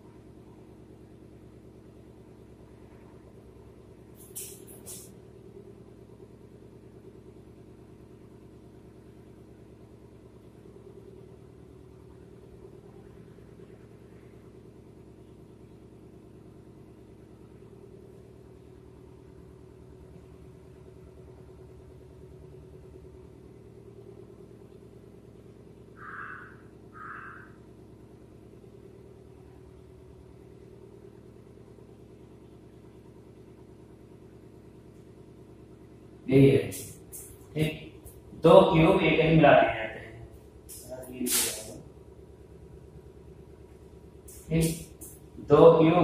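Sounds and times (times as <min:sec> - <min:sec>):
faint low hum: 0:00.0 - 0:46.0.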